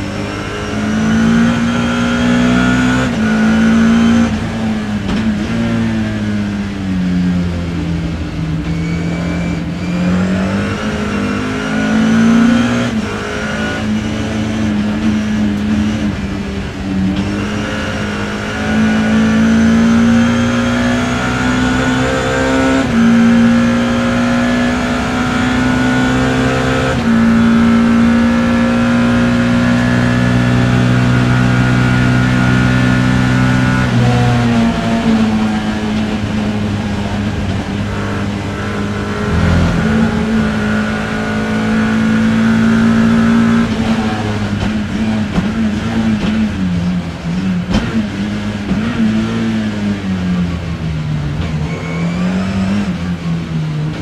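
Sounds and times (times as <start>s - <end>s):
race car engine accelerating and braking: 0.0s - 54.0s.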